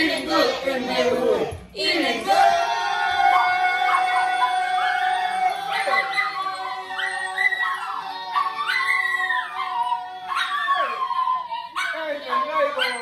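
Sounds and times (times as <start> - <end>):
children singing and wailing: 0.0 - 13.0.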